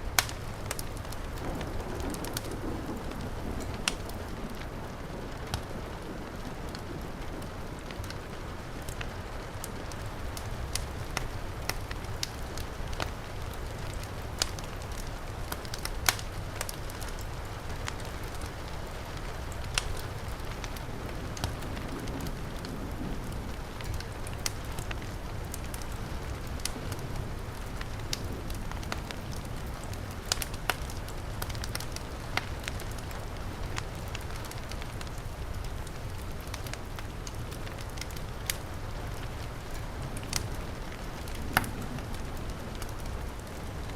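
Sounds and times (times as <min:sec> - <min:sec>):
heavy rain hiss: 0:00.0 - 0:43.9
wood fire crackling and popping: 0:00.0 - 0:43.9.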